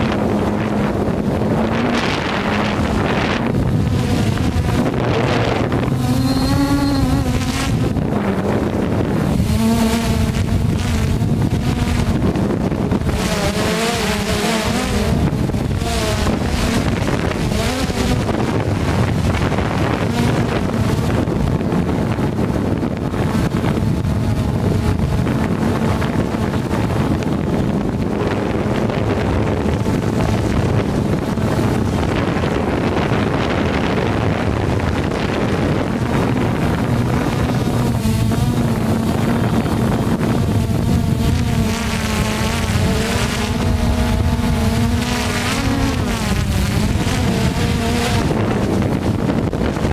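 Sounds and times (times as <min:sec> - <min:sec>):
drone propellers buzzing: 0:00.0 - 0:49.9
wind buffeting microphone: 0:00.0 - 0:49.9.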